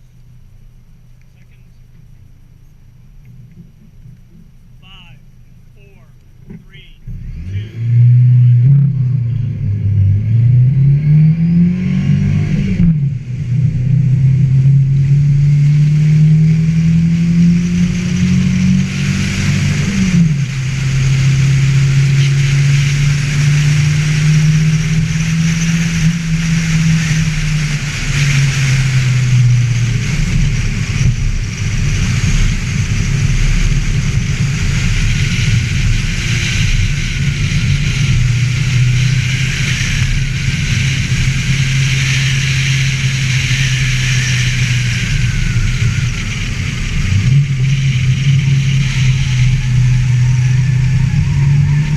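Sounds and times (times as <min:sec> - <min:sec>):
car engine accelerating hard: 0:00.0 - 0:51.9.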